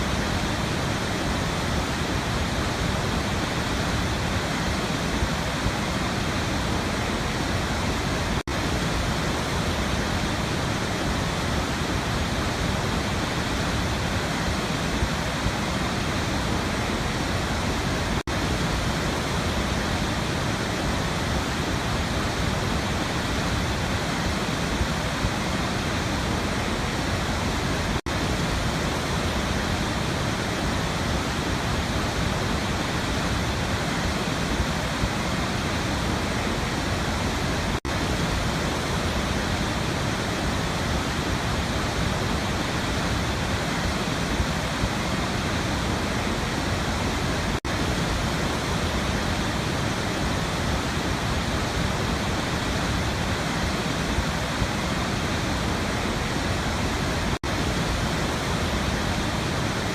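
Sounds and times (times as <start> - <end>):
waterfall roar: 0.0 - 59.9.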